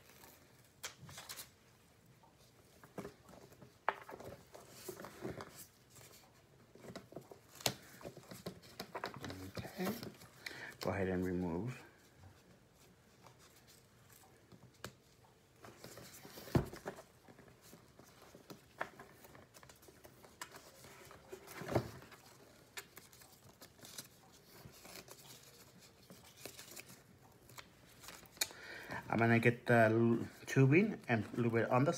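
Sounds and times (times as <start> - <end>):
dressing rustling and crinkling: 0.0 - 31.9.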